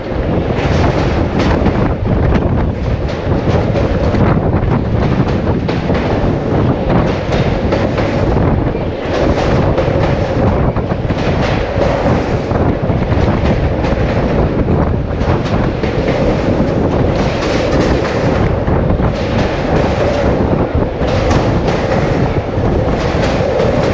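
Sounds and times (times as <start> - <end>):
train wheels rumbling on rails: 0.0 - 23.9
wheels clicking over rail joints: 0.0 - 23.9.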